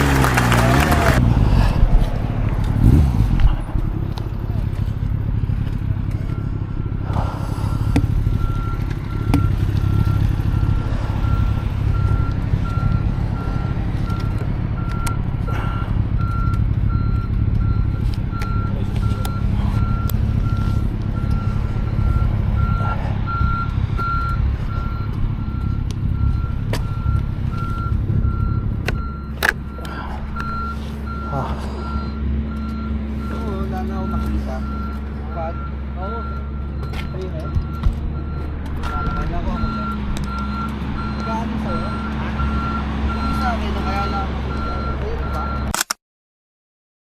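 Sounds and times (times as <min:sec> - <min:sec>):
engine rumble: 0:00.0 - 0:45.9
reversing beeper: 0:02.8 - 0:45.8.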